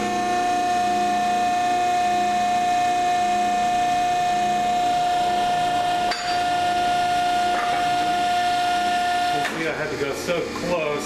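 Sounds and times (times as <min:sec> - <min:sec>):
electric pump motor whining: 0:00.0 - 0:11.0.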